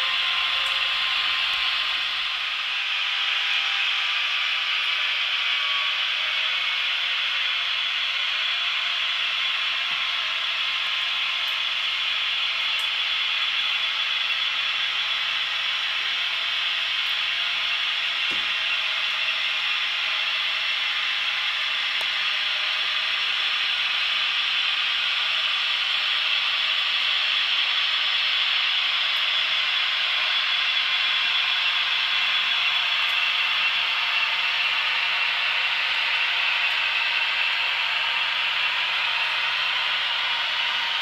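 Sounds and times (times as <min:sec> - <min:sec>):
model locomotives hissing: 0:00.0 - 0:41.0.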